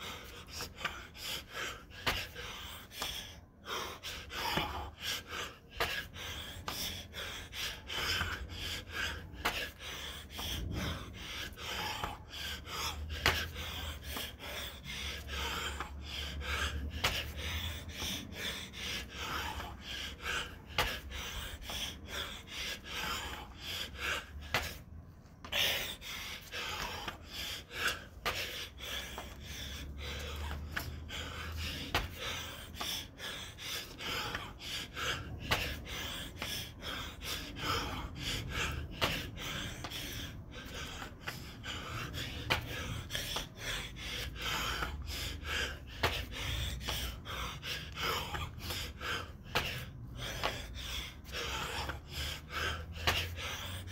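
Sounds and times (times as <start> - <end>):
man breathing hard: 0.0 - 53.9.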